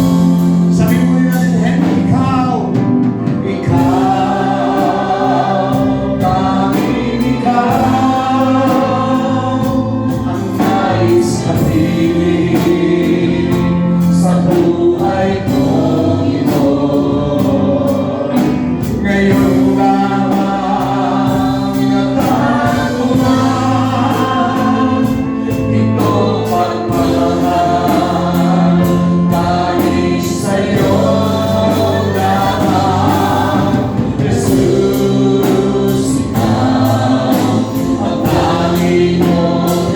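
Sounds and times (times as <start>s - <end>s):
accompaniment beat: 0.0s - 39.9s
congregation singing: 0.0s - 39.9s.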